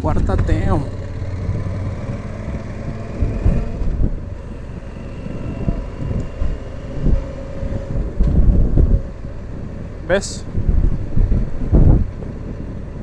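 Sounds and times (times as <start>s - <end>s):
motorcycle cruising: 0.0s - 13.0s
wind buffeting microphone: 0.0s - 13.0s.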